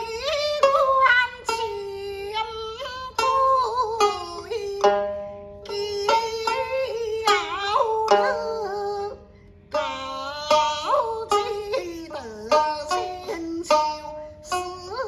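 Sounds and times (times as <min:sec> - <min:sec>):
plucked string notes: 0:00.0 - 0:15.0.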